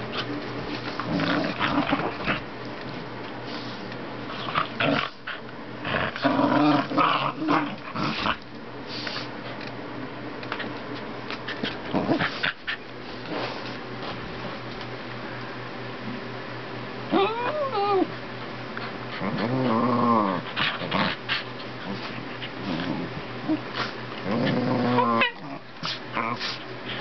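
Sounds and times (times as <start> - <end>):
small dogs play-growling: 0.0 - 9.7, 10.4 - 14.6, 17.1 - 27.0.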